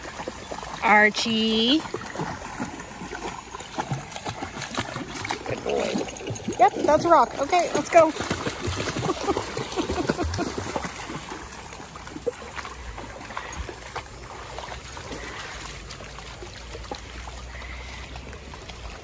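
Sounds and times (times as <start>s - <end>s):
creek water running: 0.0s - 19.0s
dogs splashing through water: 0.0s - 19.0s.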